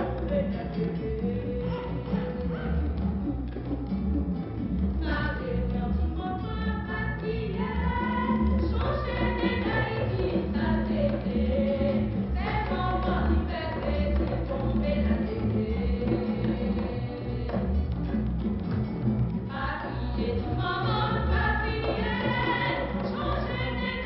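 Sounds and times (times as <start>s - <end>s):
music with singing voices: 0.0s - 24.0s.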